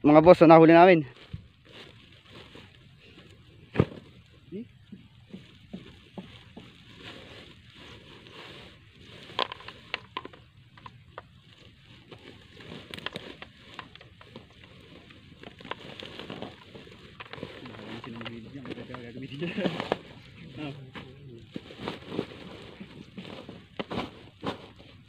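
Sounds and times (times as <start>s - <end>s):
fishing net rustling and crackling: 1.0s - 25.0s.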